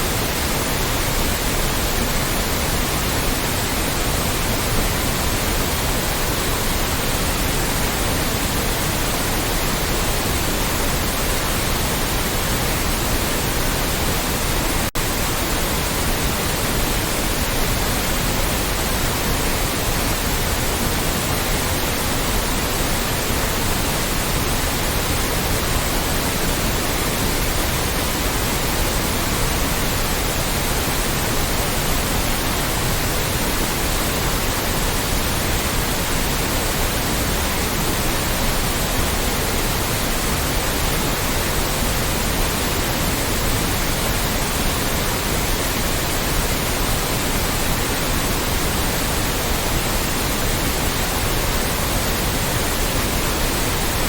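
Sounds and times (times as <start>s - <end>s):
loud white noise hiss: 0.0s - 54.0s.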